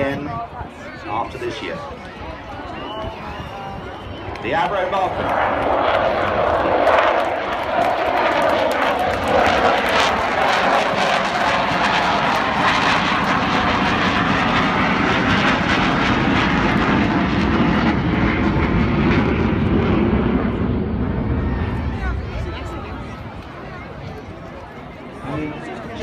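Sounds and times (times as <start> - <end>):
jet aircraft flypast: 0.0 - 26.0.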